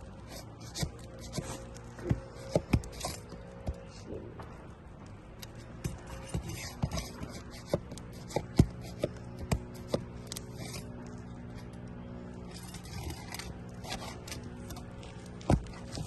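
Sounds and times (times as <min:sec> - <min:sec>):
hand tools clicking and scraping shingles: 0:00.0 - 0:04.0, 0:05.4 - 0:16.0
steady low hum: 0:00.0 - 0:16.0.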